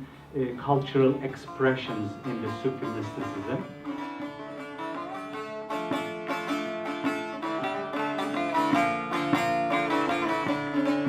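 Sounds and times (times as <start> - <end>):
plucked string instrument melody: 0.0 - 11.0.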